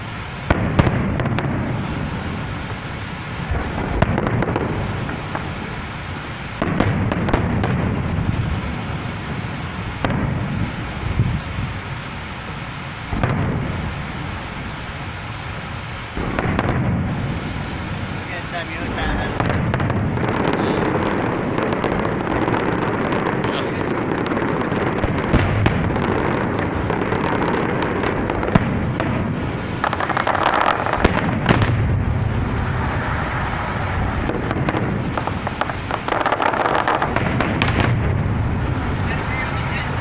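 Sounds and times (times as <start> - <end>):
fireworks crackling: 0.0 - 40.0
sharp firework bangs: 0.0 - 40.0.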